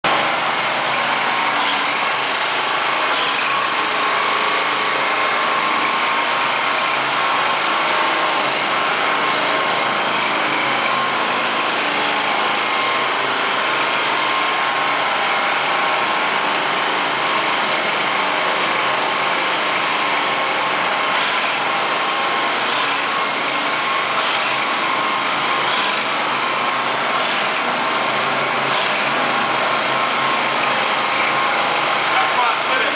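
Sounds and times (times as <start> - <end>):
small gasoline engine running: 0.0 - 32.9.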